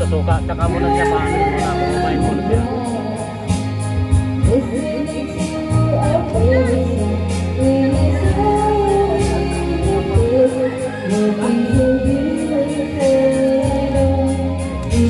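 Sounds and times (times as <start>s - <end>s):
song with steady beat: 0.0s - 15.0s.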